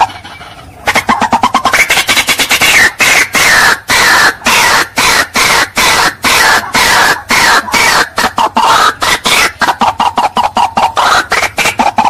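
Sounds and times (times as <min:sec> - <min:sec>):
bird harsh croaking calls: 0:00.0 - 0:12.0.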